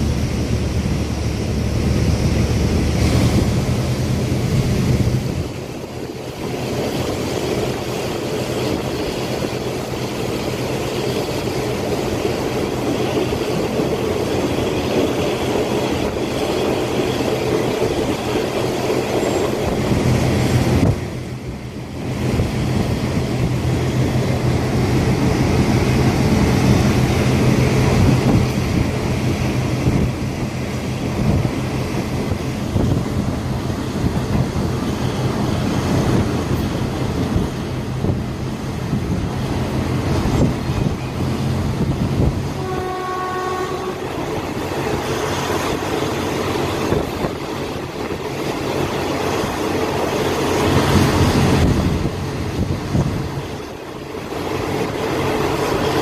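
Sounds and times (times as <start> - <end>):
diesel train engine and wheels: 0.0 - 56.0.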